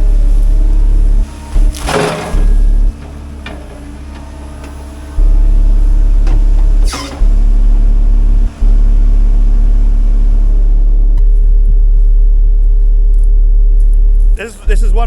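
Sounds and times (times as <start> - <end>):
excavator engine rumbling: 0.0 - 15.0.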